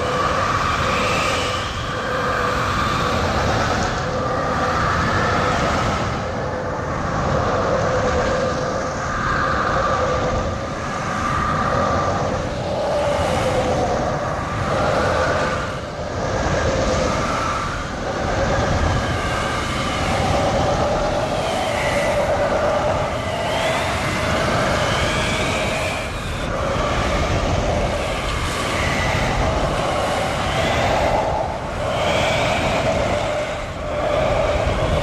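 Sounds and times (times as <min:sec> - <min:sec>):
storm wind roaring and howling: 0:00.0 - 0:35.0.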